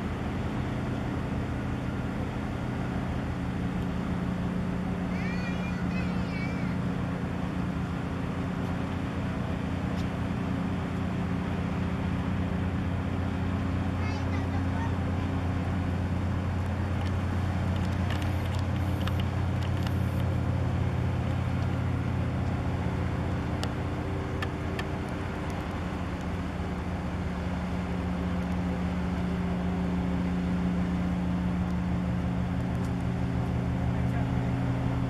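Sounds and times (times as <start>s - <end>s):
low engine drone: 0.0s - 35.0s.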